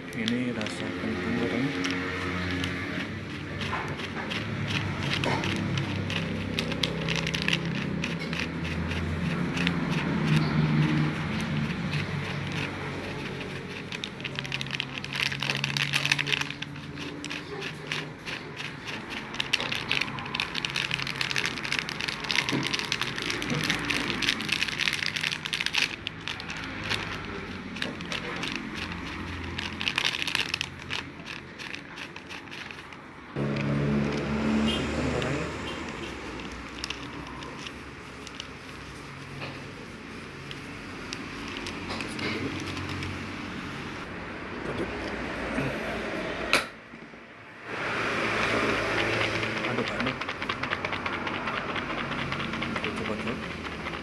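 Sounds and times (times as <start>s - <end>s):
fried wonton skins crackling: 0.0s - 43.4s.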